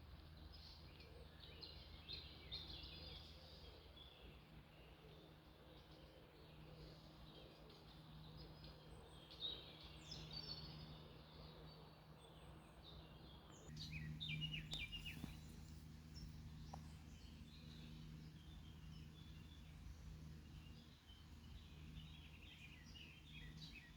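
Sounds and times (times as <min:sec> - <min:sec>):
faint low background hum: 0:00.0 - 0:23.9
small birds chirping: 0:00.1 - 0:23.9.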